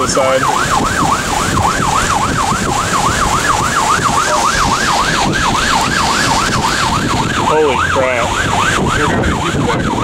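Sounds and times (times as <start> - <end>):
emergency siren yelping: 0.0 - 10.0
steady rushing noise: 0.0 - 10.0.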